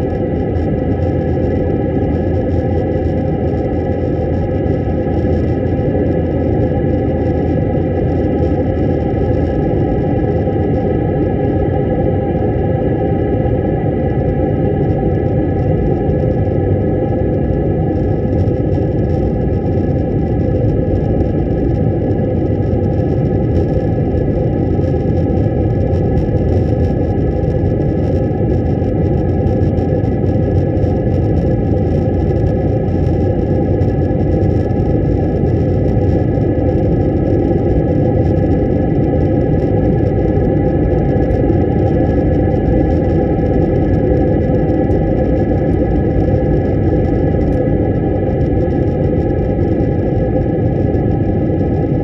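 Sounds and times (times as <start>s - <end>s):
high engine whine: 0.0s - 52.0s
jet engine and airflow drone: 0.0s - 52.0s.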